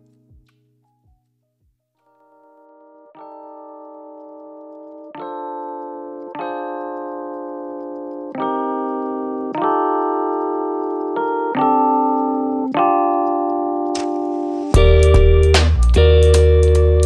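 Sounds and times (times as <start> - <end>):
soft keyboard chords: 2.1 - 17.0.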